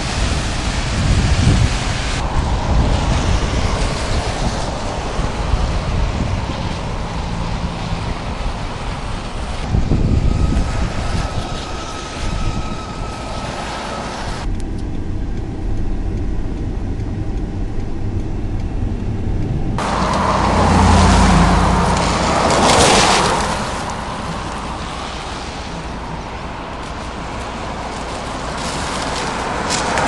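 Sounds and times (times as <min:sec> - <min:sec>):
cars passing through water: 0:00.0 - 0:30.0
traffic rumble: 0:00.0 - 0:30.0.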